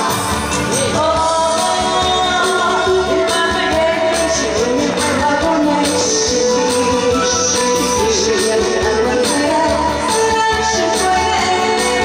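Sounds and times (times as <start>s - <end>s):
backing track with steady beat: 0.0s - 12.0s
woman singing: 0.0s - 12.0s.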